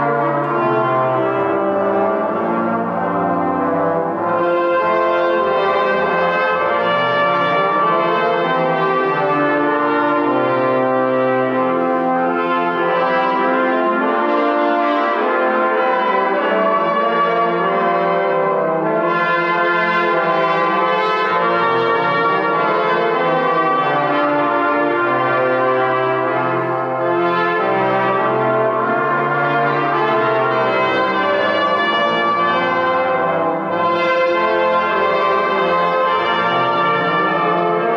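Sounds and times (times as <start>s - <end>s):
trombone low notes: 0.0s - 37.9s
trumpets playing chords: 0.0s - 37.9s.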